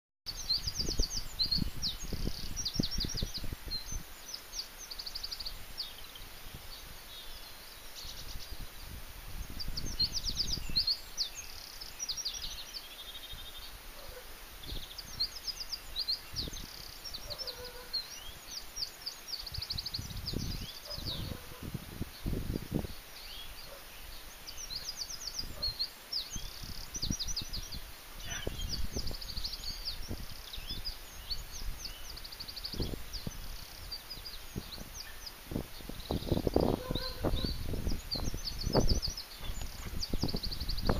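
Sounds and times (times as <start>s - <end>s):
songbirds trilling: 0.3s - 40.9s.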